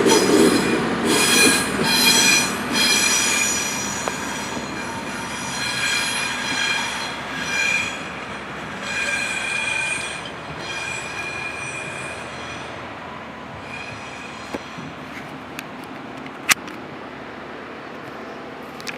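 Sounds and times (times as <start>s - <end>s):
steel wheels squealing on rails: 0.0s - 15.6s
rail vehicle rumble: 0.0s - 18.9s.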